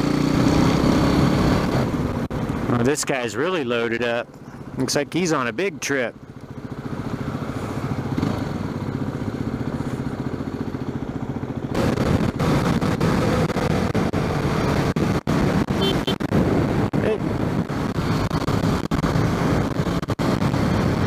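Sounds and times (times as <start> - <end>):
motorcycle engine running: 0.0 - 2.8, 4.3 - 21.0.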